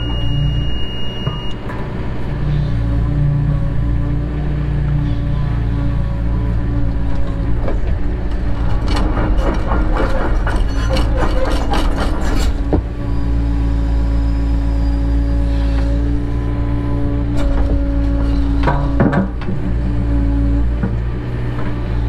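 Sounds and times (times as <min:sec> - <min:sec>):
hydraulic whine: 0:00.0 - 0:04.1, 0:04.9 - 0:21.0
excavator diesel engine: 0:00.0 - 0:22.0.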